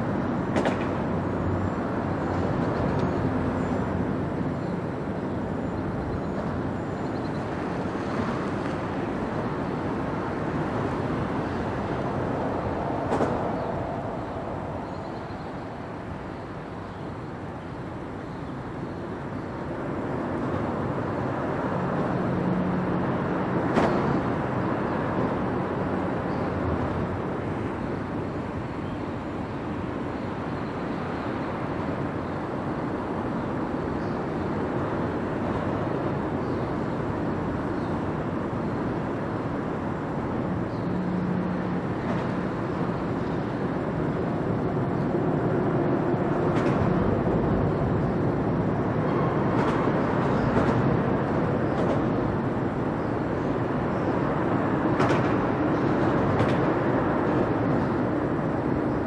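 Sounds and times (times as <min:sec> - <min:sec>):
ship engine rumble: 0:00.0 - 0:59.0.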